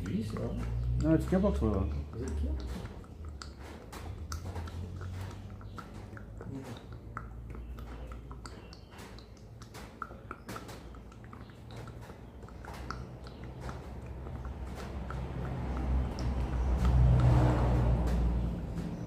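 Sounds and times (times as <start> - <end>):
squishy clicks of pump: 0.0 - 17.3.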